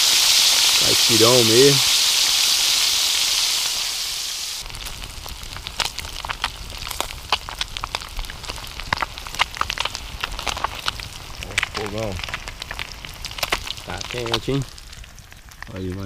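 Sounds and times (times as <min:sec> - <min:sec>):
fish frying in hot oil: 0:00.0 - 0:15.7
oil crackling and popping: 0:00.0 - 0:16.0.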